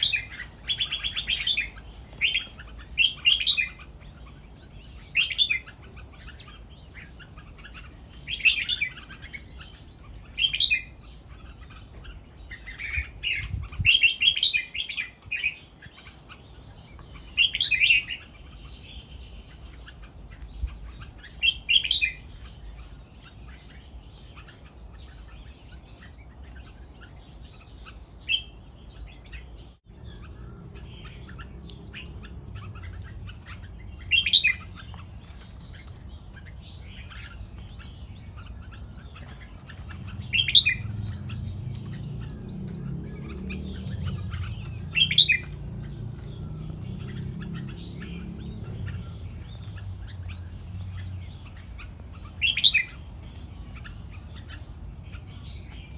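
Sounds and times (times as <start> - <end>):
bird song phrases: 0.0 - 55.9
birds chirping and calling: 0.0 - 55.9.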